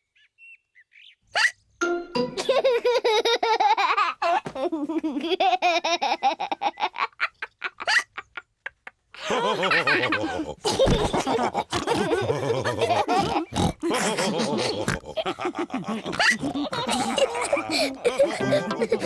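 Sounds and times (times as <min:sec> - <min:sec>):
cartoon characters laughing: 0:02.3 - 0:19.0.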